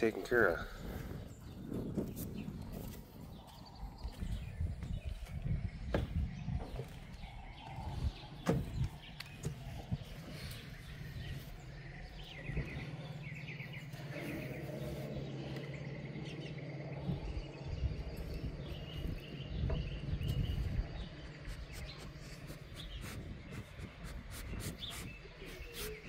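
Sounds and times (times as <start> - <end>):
low steady hum: 0.0 - 24.3
small birds chirping: 0.0 - 26.0.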